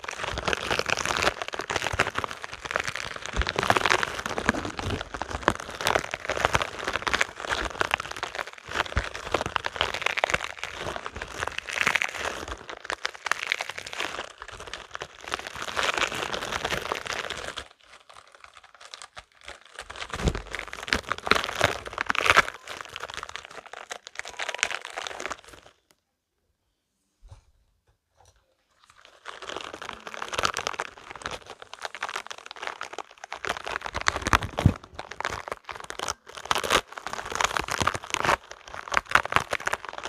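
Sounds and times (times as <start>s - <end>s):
rubber balls clicking and rubbing: 0.0s - 25.8s, 28.0s - 40.0s.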